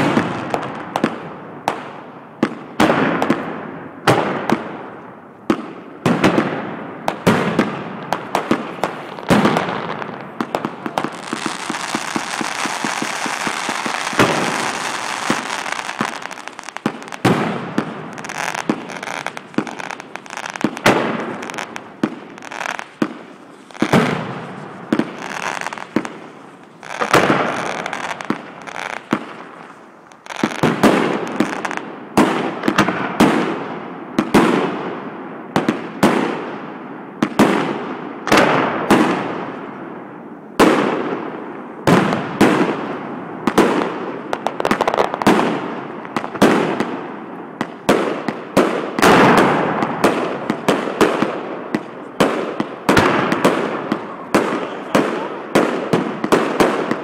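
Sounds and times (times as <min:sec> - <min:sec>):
firework bangs with echo: 0:00.0 - 0:57.0.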